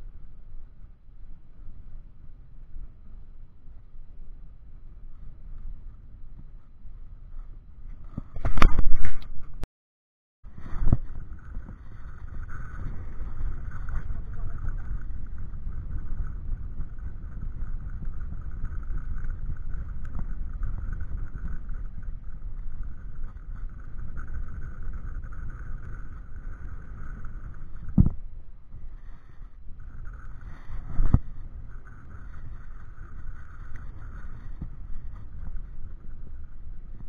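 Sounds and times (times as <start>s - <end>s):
wind buffeting microphone: 0.0s - 9.6s, 10.5s - 37.0s.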